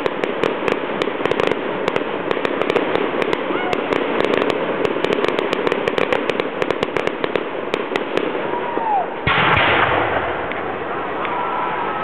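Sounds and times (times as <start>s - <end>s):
loud firework shell burst: 0.0s - 10.8s
fireworks crackling pops: 0.0s - 12.0s.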